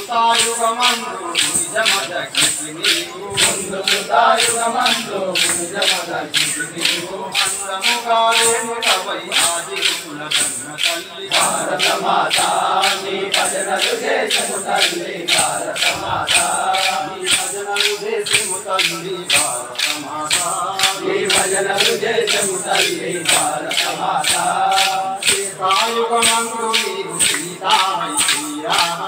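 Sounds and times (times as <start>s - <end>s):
men singing a prayer song: 0.0s - 29.0s
wooden clappers clacking: 0.0s - 29.0s.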